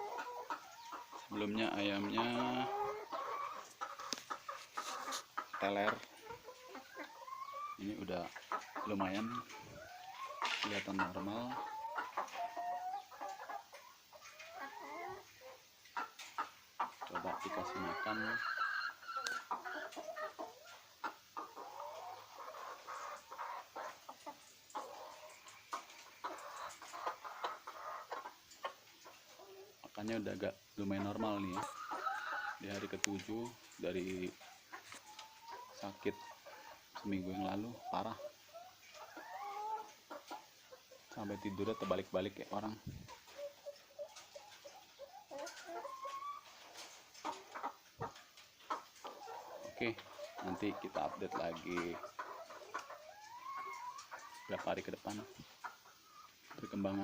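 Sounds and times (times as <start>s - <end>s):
chicken clucking: 0.0s - 57.0s.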